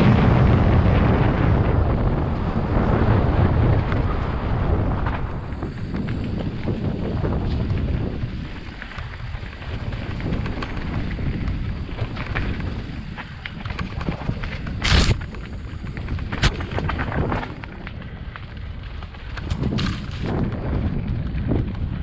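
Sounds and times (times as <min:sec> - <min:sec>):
low tyre rumble: 0:00.0 - 0:22.0
wind rushing over microphone: 0:00.0 - 0:22.0
bike rattles and clicks: 0:01.0 - 0:22.0.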